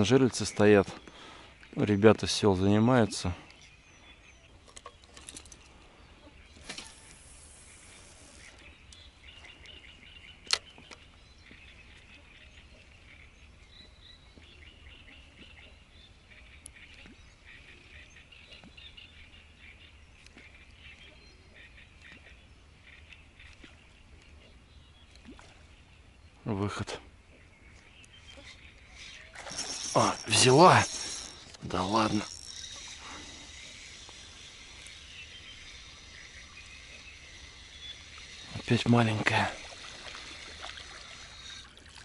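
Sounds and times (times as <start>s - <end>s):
small birds chirping and trilling: 0.0s - 41.9s.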